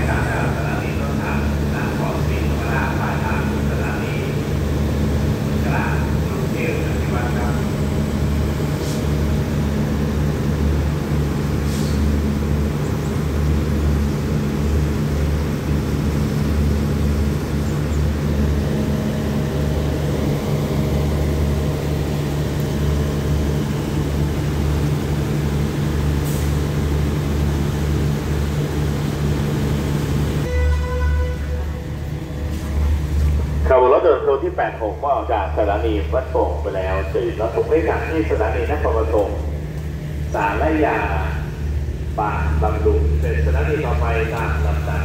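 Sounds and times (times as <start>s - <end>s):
diesel train engine humming: 0.0s - 45.0s.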